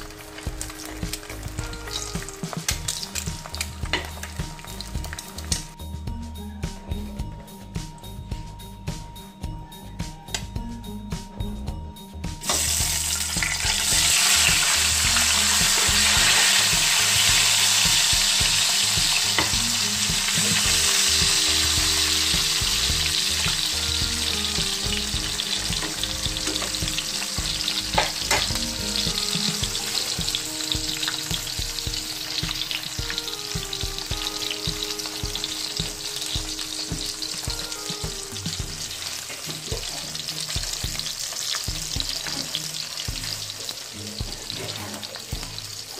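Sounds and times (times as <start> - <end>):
hot dogs sizzling in oil: 0.0 - 5.8, 12.4 - 45.9.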